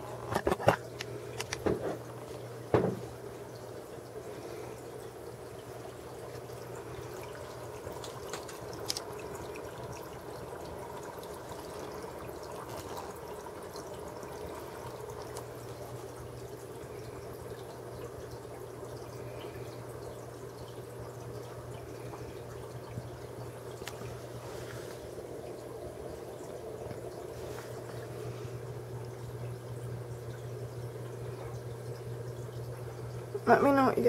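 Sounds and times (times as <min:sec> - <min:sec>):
low steady hum: 0:00.0 - 0:34.0
water trickling into tank: 0:00.0 - 0:34.0.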